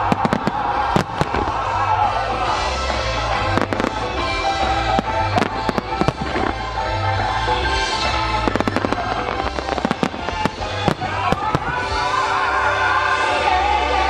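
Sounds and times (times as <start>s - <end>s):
fireworks bangs: 0.0s - 12.7s
music with steady beat: 0.0s - 12.7s.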